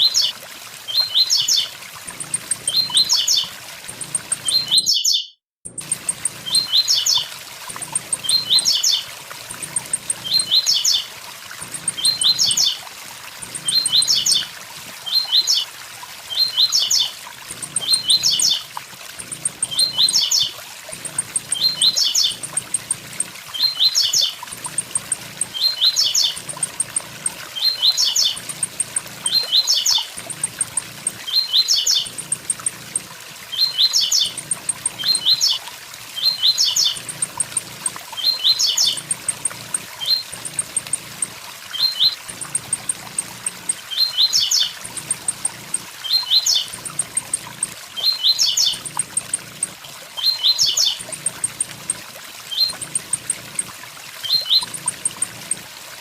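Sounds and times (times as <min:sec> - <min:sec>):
small bird singing: 0:00.9 - 0:12.8, 0:13.4 - 0:14.5, 0:15.1 - 0:15.7, 0:16.3 - 0:55.7.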